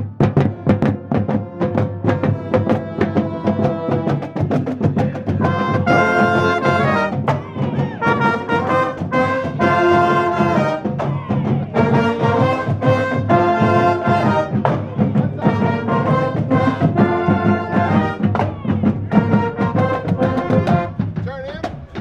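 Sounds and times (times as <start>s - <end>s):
marching band playing a tune: 0.0s - 22.0s.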